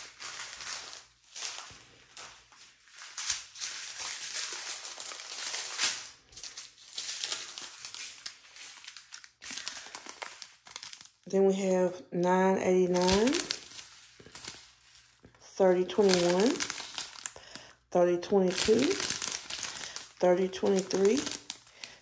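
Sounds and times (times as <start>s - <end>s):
plastic bags crinkling: 0.0s - 11.3s, 12.8s - 22.0s.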